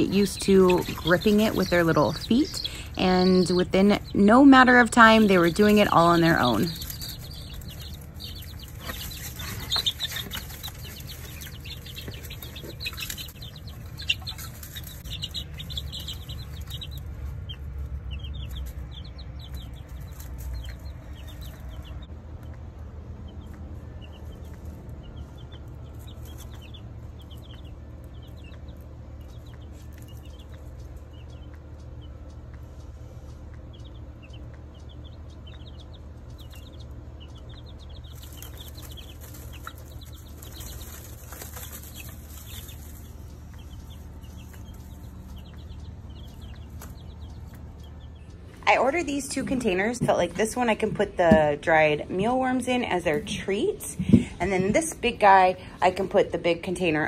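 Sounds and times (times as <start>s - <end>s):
baby chicks peeping: 0.0s - 57.0s
steady low hum: 0.0s - 57.0s.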